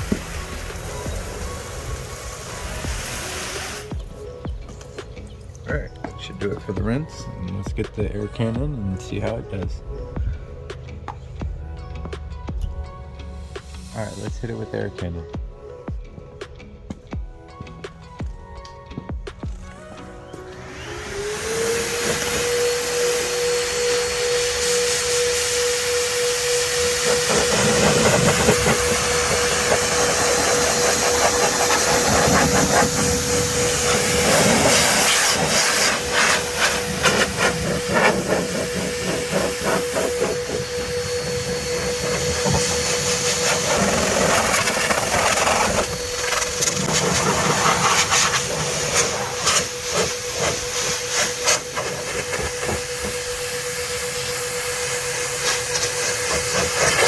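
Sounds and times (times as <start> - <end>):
car blow dryer rushing air: 0.0 - 57.0.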